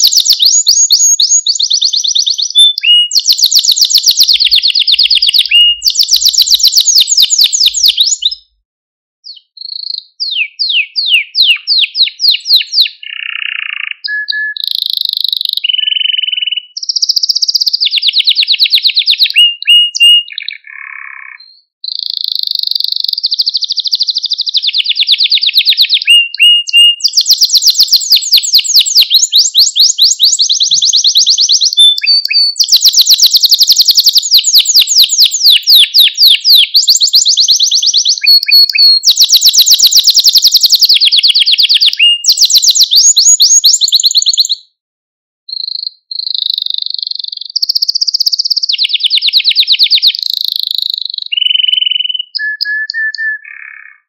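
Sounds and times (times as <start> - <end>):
canary singing trills: 0.0 - 8.6, 9.2 - 44.8, 45.5 - 54.0.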